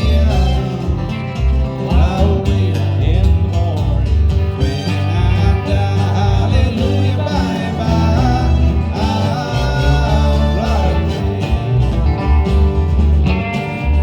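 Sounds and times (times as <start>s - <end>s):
acoustic guitar: 0.0s - 14.0s
country band music: 0.0s - 14.0s
strong bass notes: 0.0s - 14.0s.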